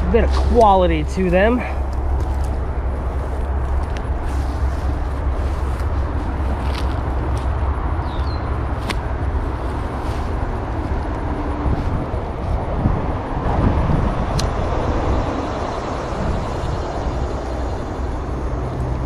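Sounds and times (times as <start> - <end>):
highway traffic: 0.0 - 19.0
wind: 0.0 - 19.0.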